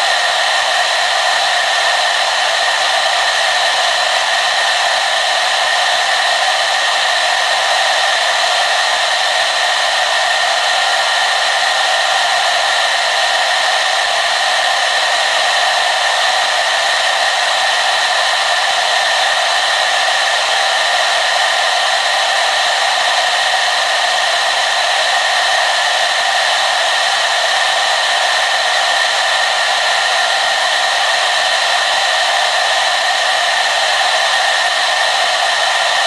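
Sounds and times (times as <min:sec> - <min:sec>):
hair dryer running: 0:00.0 - 0:36.0.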